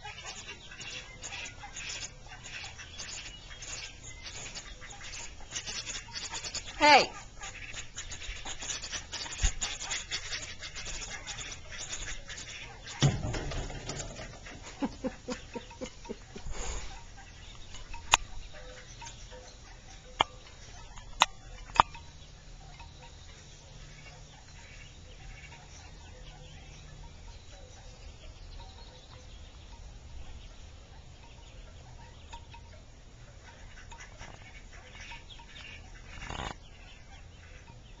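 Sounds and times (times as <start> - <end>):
ducks calling faintly: 0.0 - 38.0.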